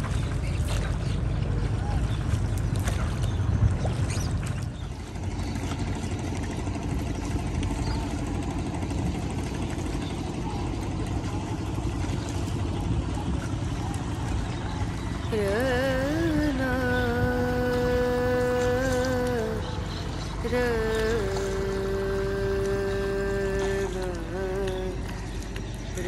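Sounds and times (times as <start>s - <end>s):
boat engine running: 0.0s - 26.0s
water around hull: 0.0s - 26.0s.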